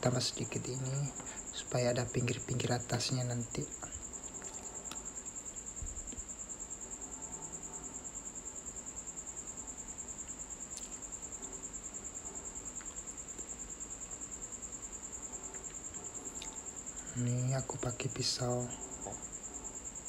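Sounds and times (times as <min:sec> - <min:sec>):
cricket trilling: 0:00.0 - 0:20.0.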